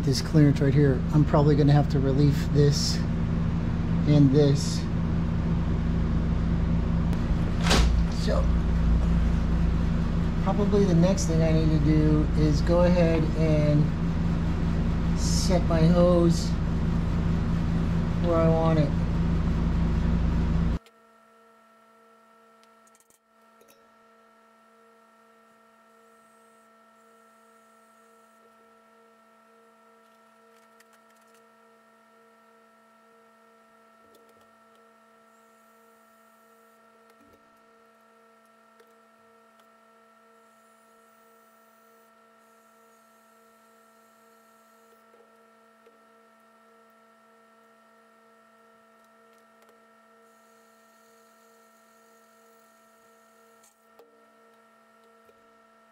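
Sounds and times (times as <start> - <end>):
electrical hum: 0.0 - 55.9.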